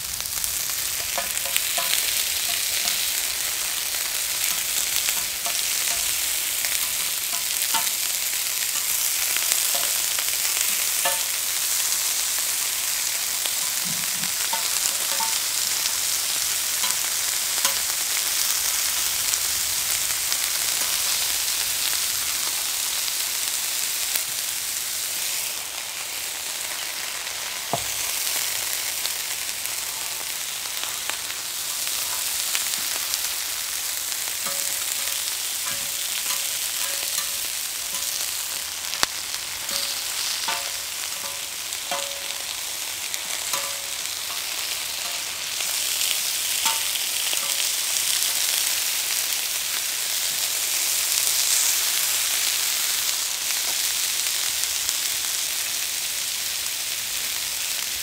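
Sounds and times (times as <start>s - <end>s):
chicken sizzling on griddle: 0.0s - 58.0s.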